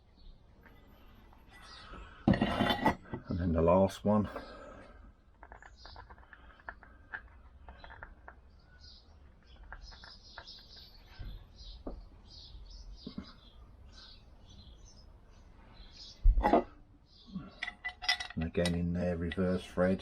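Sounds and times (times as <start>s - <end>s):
small birds chirping: 0.0s - 2.2s, 3.3s - 20.0s.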